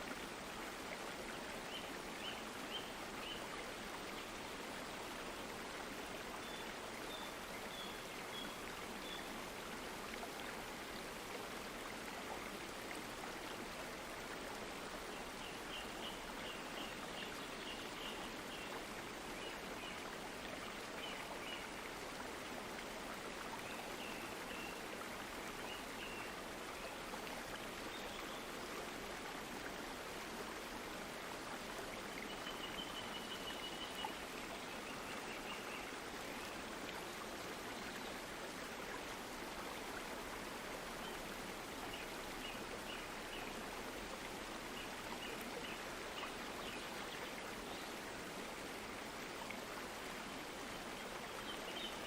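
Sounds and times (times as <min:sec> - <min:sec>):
stream water running: 0:00.0 - 0:52.0.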